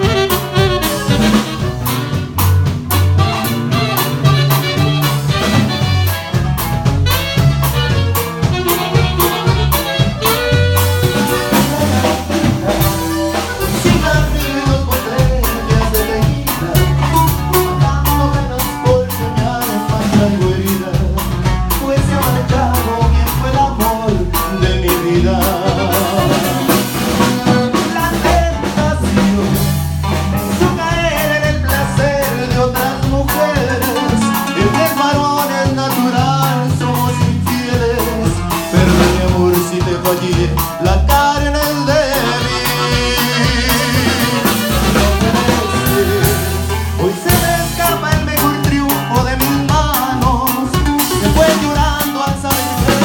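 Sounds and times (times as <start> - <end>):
band playing instrumental music: 0.0 - 53.0
bass: 0.0 - 53.0
drum kit: 0.0 - 53.0.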